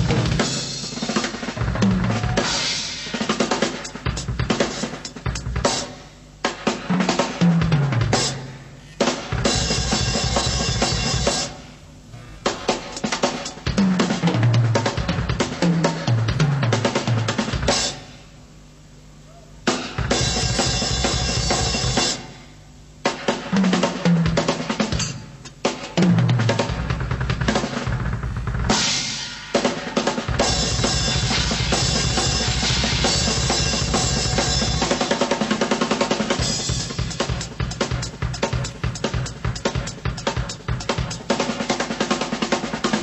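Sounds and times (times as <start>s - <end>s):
drum kit playing: 0.0s - 11.8s, 12.4s - 18.3s, 19.6s - 43.0s.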